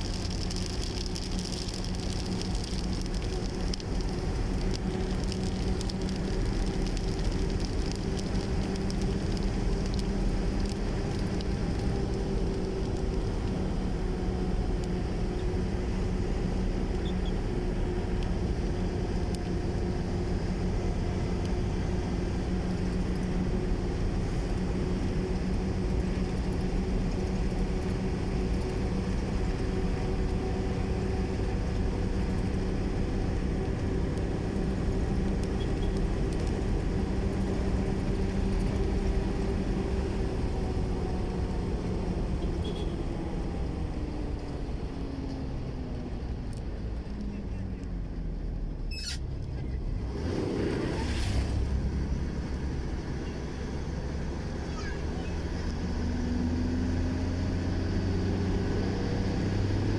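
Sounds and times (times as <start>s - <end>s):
steady engine drone: 0.0s - 59.9s.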